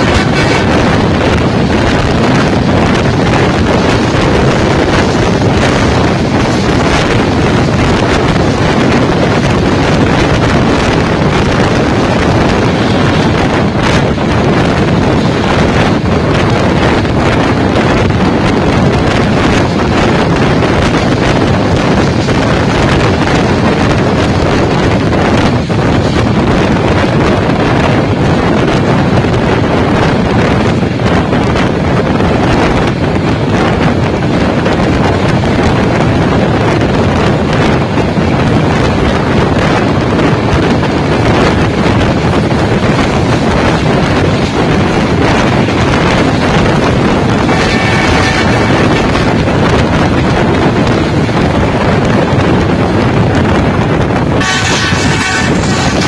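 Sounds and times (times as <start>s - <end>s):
train coaches rumbling on track: 0.0s - 56.0s
wind rushing over microphone: 0.0s - 56.0s.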